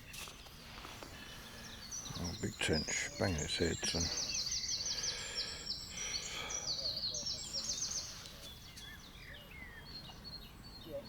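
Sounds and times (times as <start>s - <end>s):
low outdoor background noise: 0.0s - 11.0s
small birds singing: 0.0s - 11.0s.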